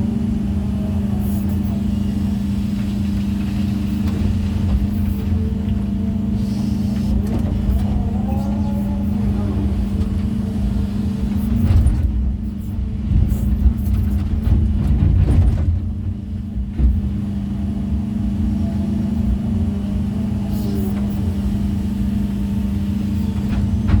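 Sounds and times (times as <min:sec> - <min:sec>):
construction machine engine humming: 0:00.0 - 0:24.0.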